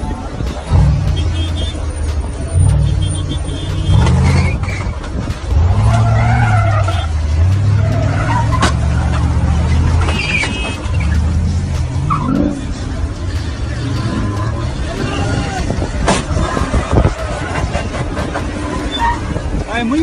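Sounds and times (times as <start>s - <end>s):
tyres squealing: 0.0s - 19.7s
engines revving: 0.0s - 20.0s.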